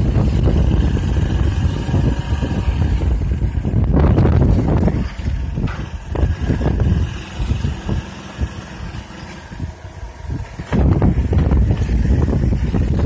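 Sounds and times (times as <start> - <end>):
car road and engine noise: 0.0 - 13.0
wind buffeting microphone: 0.0 - 13.0.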